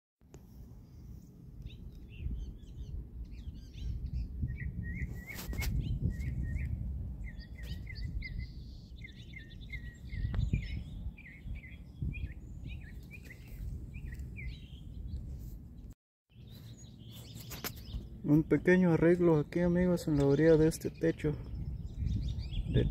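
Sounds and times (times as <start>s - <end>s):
small birds chirping: 0.8s - 22.9s.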